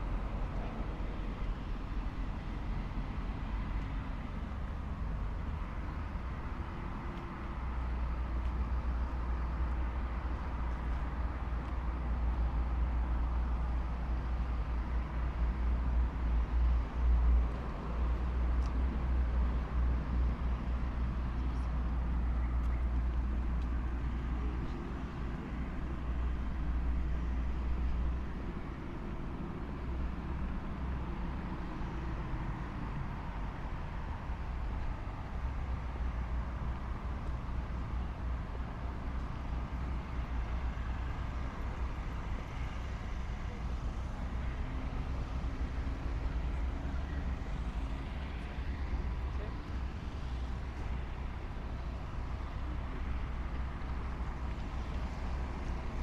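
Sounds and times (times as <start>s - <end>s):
deep rumble of passing vehicle: 0.0s - 56.0s
road traffic passing: 0.0s - 56.0s.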